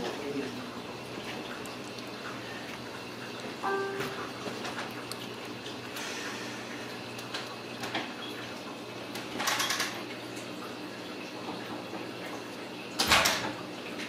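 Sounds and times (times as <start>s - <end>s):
low household hum: 0.0s - 14.0s.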